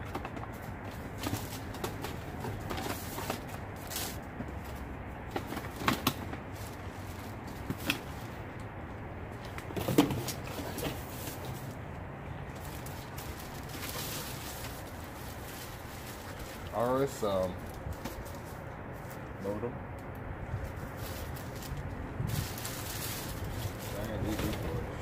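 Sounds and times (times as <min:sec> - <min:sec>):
rummaging through a bag: 0:00.0 - 0:08.5, 0:09.4 - 0:11.8, 0:12.5 - 0:19.5, 0:20.6 - 0:24.9.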